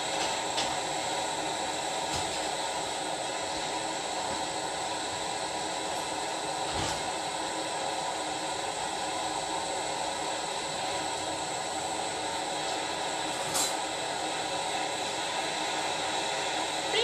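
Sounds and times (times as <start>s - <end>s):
gas torch hissing: 0.0s - 17.0s.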